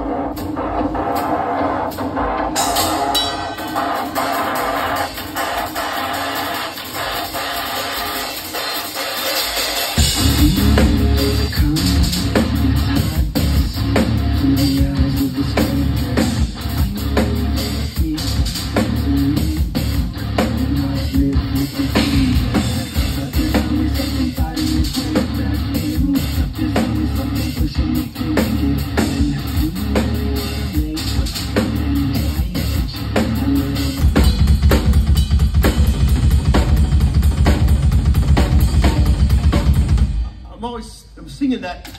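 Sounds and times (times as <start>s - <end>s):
heavy bass and kick drum: 0.0s - 40.4s
drum kit played hard: 0.0s - 41.9s
rock music: 0.0s - 41.9s
electric guitar: 1.9s - 40.4s.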